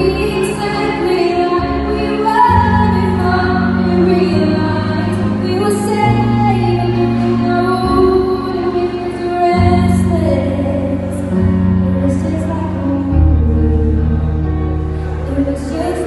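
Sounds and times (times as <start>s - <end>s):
woman singing into microphone: 0.0s - 14.6s, 15.2s - 16.0s.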